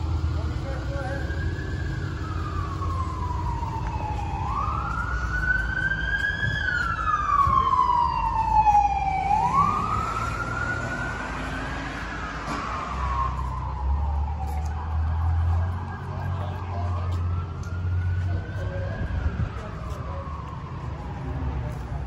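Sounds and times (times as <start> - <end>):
emergency vehicle siren wailing: 0.0 - 22.0
low traffic rumble: 0.0 - 22.0.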